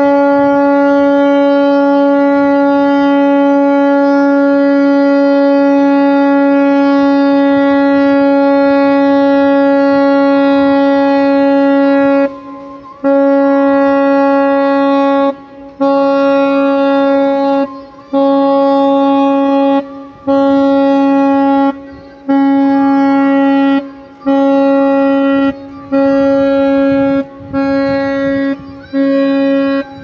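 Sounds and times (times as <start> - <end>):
ship horn blasts: 0.0 - 30.0.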